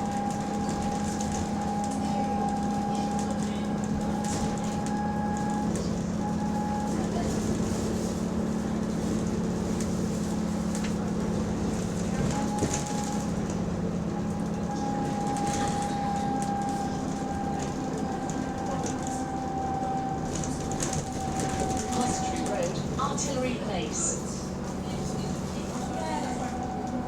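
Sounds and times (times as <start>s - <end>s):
drivetrain whine: 0.0s - 25.0s
bus engine droning: 0.0s - 27.0s.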